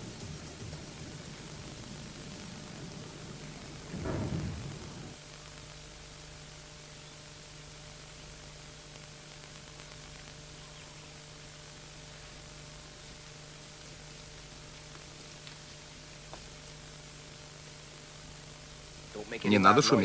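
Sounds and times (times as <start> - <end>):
faint low hum: 0.0 - 20.0
steady tape hiss: 0.0 - 20.0.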